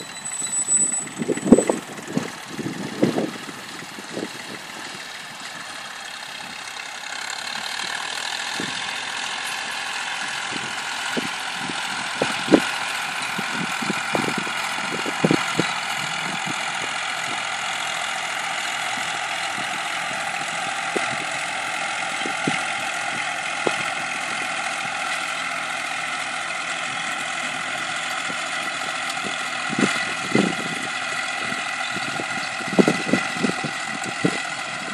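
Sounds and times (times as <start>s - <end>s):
tractor engines running: 0.0s - 34.9s.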